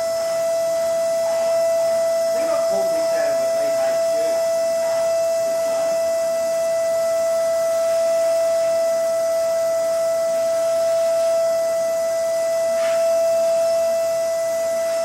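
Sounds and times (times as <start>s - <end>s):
steady single-pitched tone: 0.0s - 15.0s.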